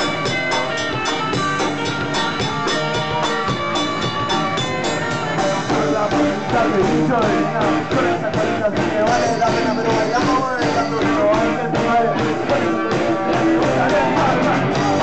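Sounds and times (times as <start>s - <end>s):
drum kit beat: 0.0s - 15.0s
electric guitar: 0.0s - 15.0s.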